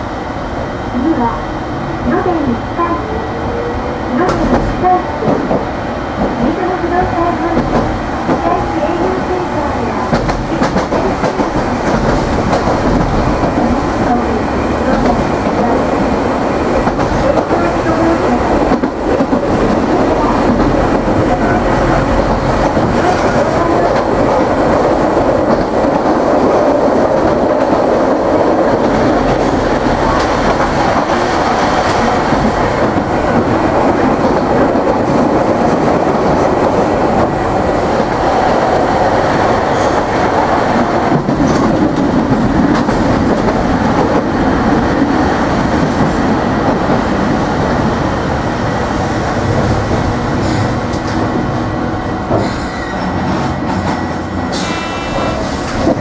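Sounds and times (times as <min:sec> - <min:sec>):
tram wheels rumbling on rail: 0:00.0 - 0:56.0.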